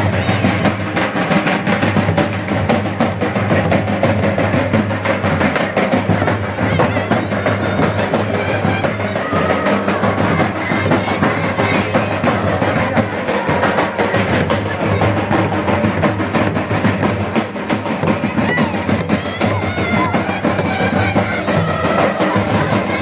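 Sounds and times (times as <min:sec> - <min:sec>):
barrel drums beating: 0:00.0 - 0:23.0
stick-beaten frame drum: 0:00.0 - 0:23.0.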